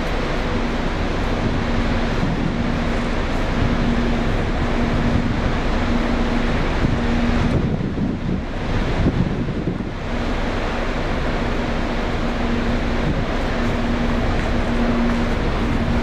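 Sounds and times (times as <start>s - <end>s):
faint steady hum: 0.0s - 16.0s
wind rushing over microphone: 0.0s - 16.0s.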